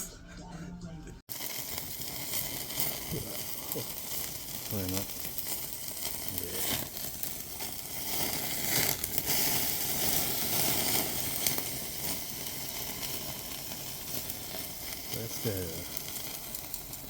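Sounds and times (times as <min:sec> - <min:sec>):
food sizzling in frying pan: 0:01.3 - 0:17.0.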